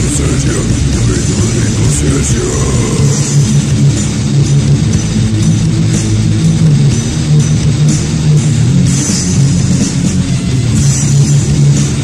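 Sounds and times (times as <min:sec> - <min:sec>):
heavy metal music: 0:00.0 - 0:12.0.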